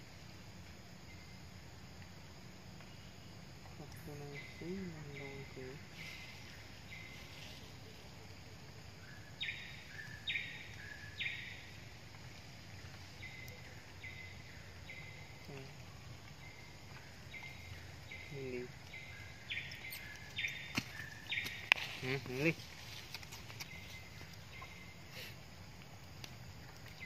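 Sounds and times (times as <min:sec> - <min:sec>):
insects buzzing: 0:00.0 - 0:27.0
steady background hiss: 0:00.0 - 0:27.0.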